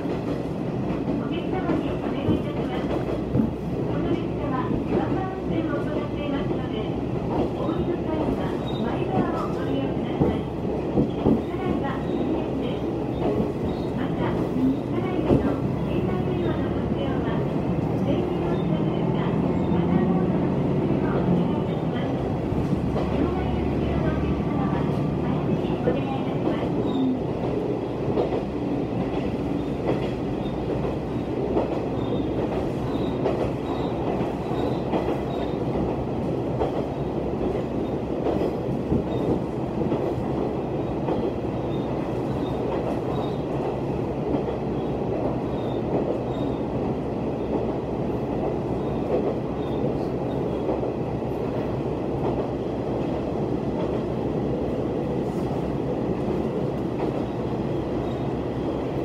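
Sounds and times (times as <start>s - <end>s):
diesel railcar rumbling: 0.0s - 59.0s.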